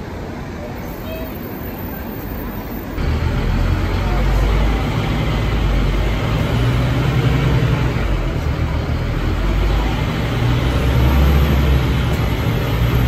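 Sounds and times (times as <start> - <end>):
bus diesel engine drone: 0.0 - 13.0
street traffic: 0.0 - 13.0.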